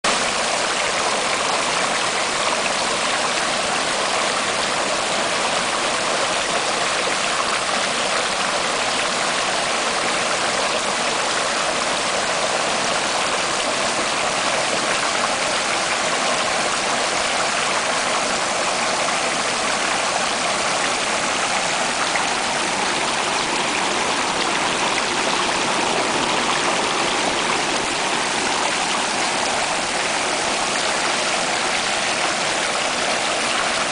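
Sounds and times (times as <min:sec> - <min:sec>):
water splashing over rocks: 0:00.1 - 0:33.9.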